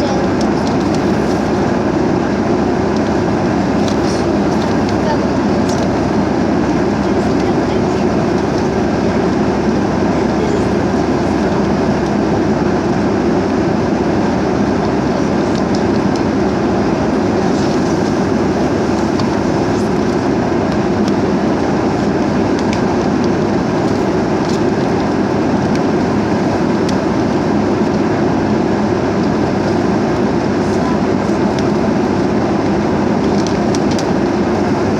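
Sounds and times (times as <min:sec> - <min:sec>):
airplane cabin noise: 0:00.0 - 0:34.9.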